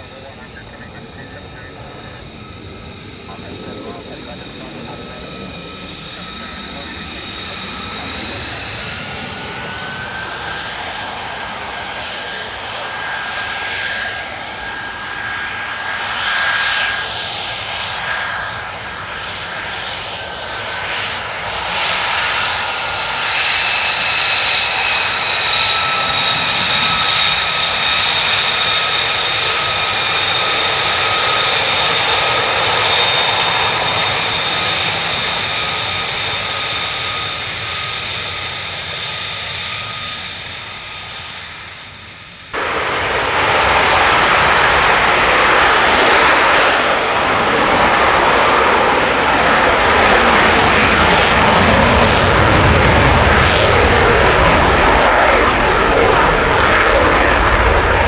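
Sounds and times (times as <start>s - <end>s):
jet engine rush with whining: 0.0s - 58.0s.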